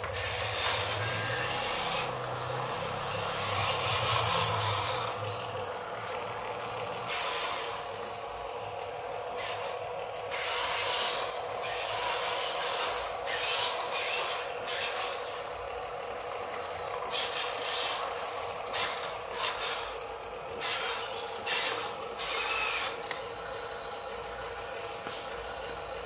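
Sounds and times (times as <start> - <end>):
toy electric motor whining: 0.0 - 26.0.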